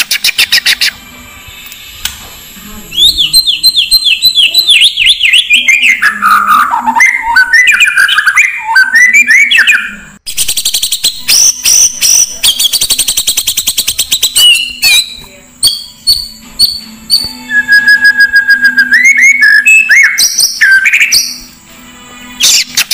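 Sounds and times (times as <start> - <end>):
bird high chattering trills: 0.0 - 1.0, 3.0 - 21.6
bird whistled song: 0.0 - 1.7, 2.9 - 21.6, 22.4 - 22.9.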